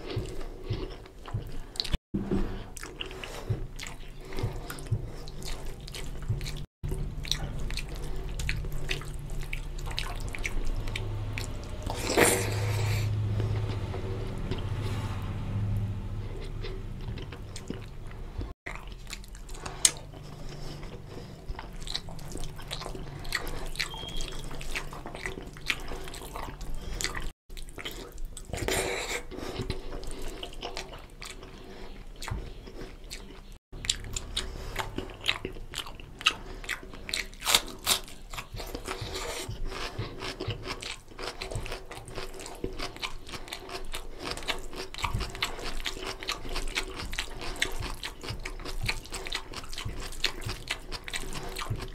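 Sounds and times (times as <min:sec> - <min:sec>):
chewing and wet mouth smacks: 0:00.0 - 0:02.0, 0:02.7 - 0:14.7, 0:16.3 - 0:51.9.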